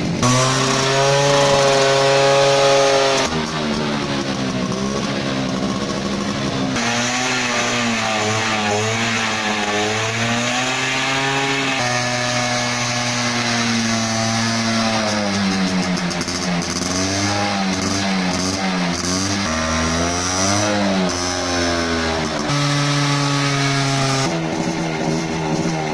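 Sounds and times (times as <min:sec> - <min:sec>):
two-stroke motorcycle engine revving: 0:00.0 - 0:25.9.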